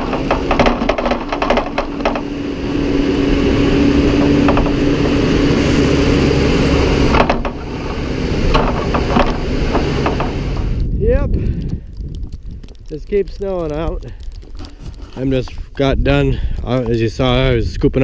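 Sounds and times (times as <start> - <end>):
low hum: 0.0 - 17.2.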